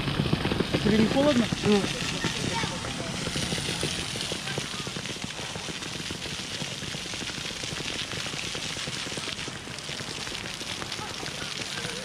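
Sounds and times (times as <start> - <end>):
crackly low rumble: 0.0 - 12.0
fountain water splashing on paving: 0.0 - 12.0.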